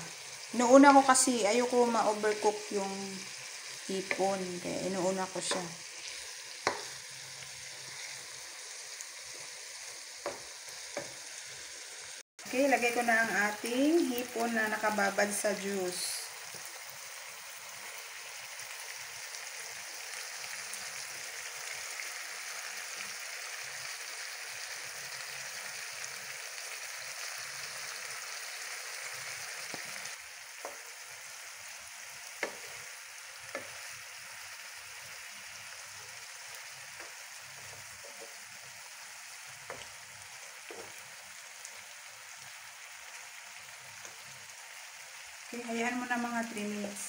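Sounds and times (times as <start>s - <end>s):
shrimp sizzling in a skillet: 0.0s - 47.0s.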